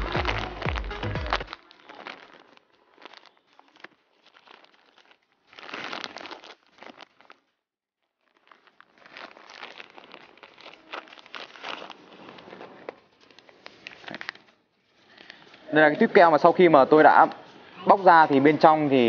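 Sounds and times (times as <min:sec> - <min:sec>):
plastic tearing: 0:00.0 - 0:15.7
plastic wrapper crinkling: 0:00.0 - 0:19.0.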